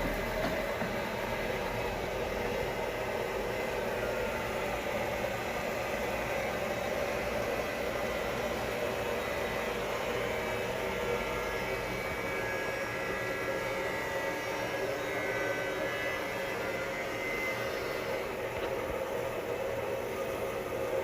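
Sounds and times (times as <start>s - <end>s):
faint motor whine: 0.0s - 21.0s
washing machine drone: 0.0s - 21.0s.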